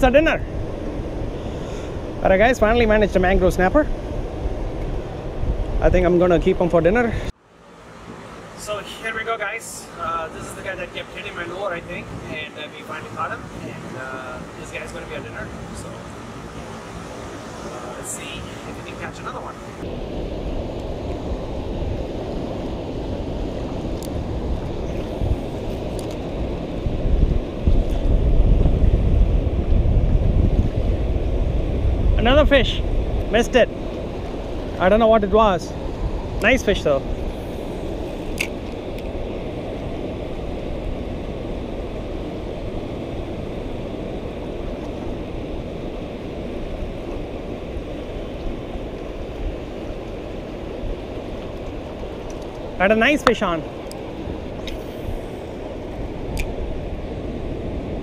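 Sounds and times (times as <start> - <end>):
wind rumbling on microphone: 0.0 - 7.4, 8.1 - 58.0.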